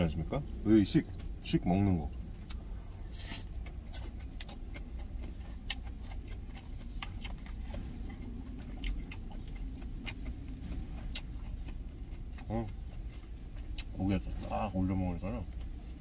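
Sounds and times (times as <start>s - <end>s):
steady low rumble: 0.0s - 16.0s
chewing with small clicks: 0.8s - 16.0s.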